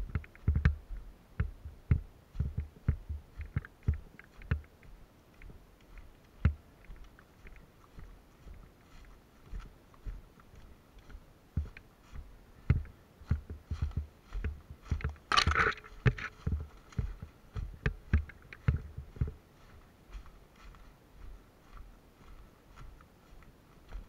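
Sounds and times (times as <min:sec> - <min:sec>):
footsteps and gear knocking: 0:00.0 - 0:24.0.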